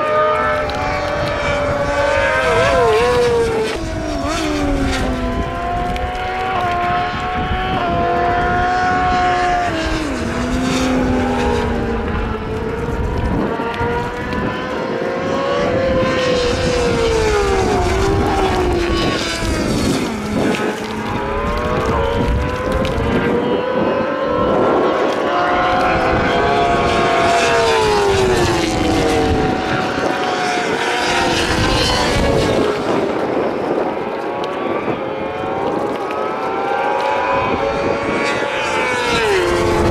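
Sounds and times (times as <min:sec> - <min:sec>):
racing motorcycles passing: 0:00.0 - 0:39.9.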